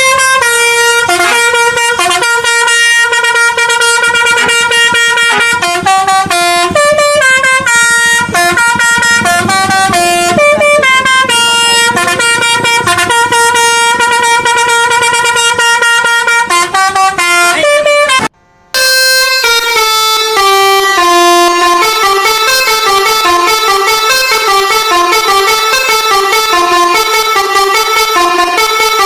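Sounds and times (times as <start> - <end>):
musical bus horn melody: 0.0 - 29.0.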